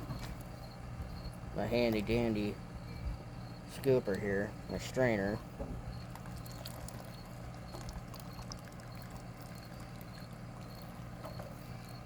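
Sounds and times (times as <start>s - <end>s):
crickets chirping: 0.0s - 12.0s
steady low hum: 0.0s - 12.0s.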